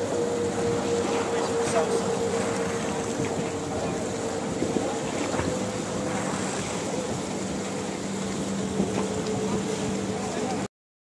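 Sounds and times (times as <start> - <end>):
wind on microphone: 0.0 - 10.6
faint steady drone: 0.0 - 10.7
river water lapping: 0.0 - 10.7.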